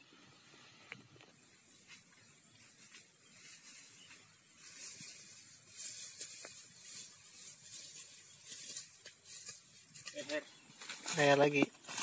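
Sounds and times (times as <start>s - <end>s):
steady high hiss: 0.0s - 12.0s
footsteps through dry vegetation: 1.3s - 12.0s.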